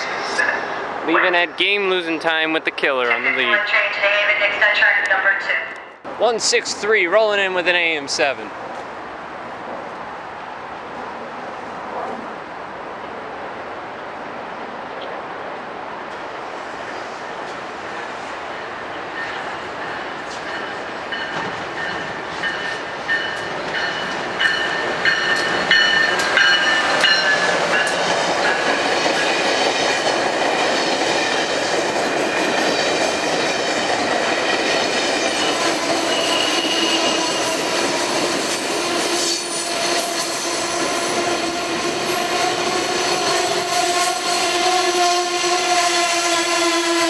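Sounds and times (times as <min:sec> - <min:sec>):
train coaches rushing past: 0:00.0 - 0:12.4, 0:16.0 - 0:47.0.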